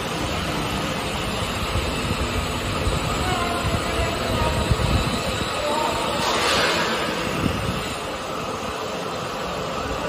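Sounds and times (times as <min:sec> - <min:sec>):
concrete floor grinder running: 0:00.0 - 0:10.0.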